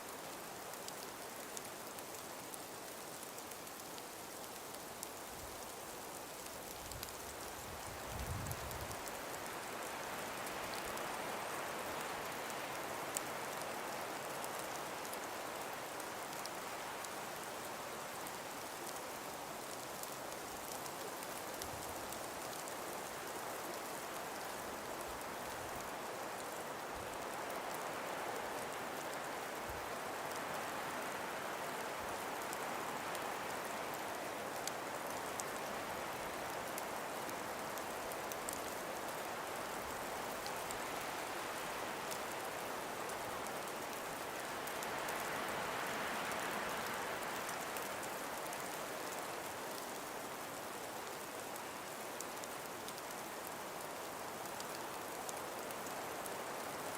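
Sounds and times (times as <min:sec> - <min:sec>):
breeze through trees: 0:00.0 - 0:56.9
faint ticks: 0:00.1 - 0:56.9.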